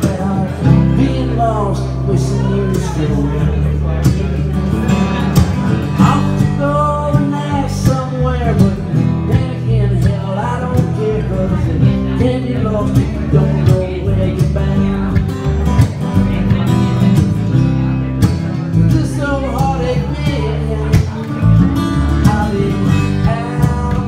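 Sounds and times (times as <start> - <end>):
man singing: 0.0 - 24.0
strummed acoustic guitar: 0.0 - 24.0.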